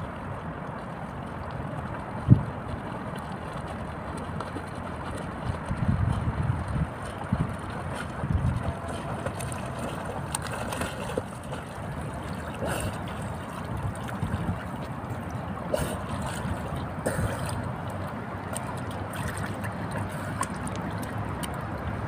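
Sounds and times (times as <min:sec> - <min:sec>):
water splashing from swim strokes: 0:00.0 - 0:22.0.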